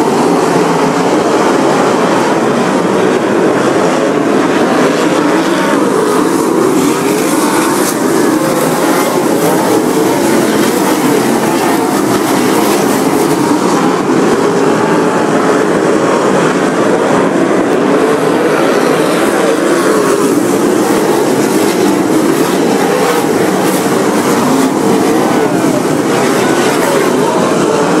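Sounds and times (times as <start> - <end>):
racing car engines passing: 0.0 - 28.0.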